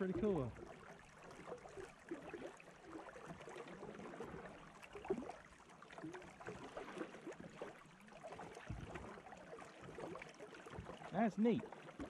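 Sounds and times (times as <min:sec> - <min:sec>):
faint splashes: 0:00.0 - 0:12.0
water lapping and gurgling: 0:00.0 - 0:12.0.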